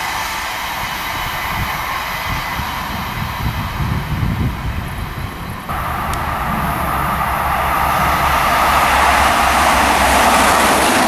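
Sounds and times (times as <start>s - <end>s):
train passing: 0.0s - 11.0s.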